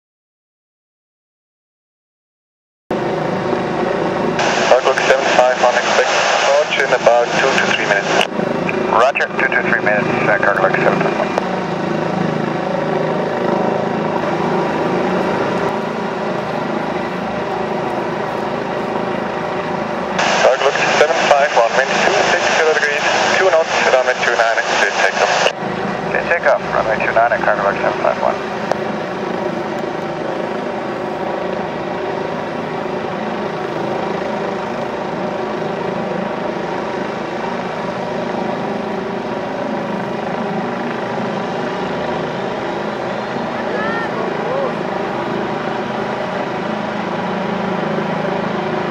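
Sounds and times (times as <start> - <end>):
jet engines whining: 2.9 - 48.9.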